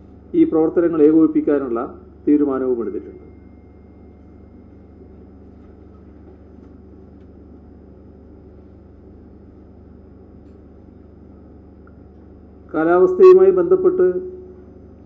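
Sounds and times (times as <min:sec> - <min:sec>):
low room hum with hiss: 0:00.0 - 0:15.0.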